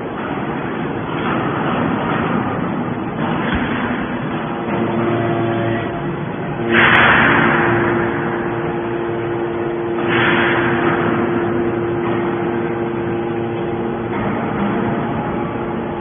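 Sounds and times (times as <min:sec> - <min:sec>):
hydraulic baler hum: 0:00.0 - 0:16.0
surge of harsh machine noise: 0:00.0 - 0:16.0.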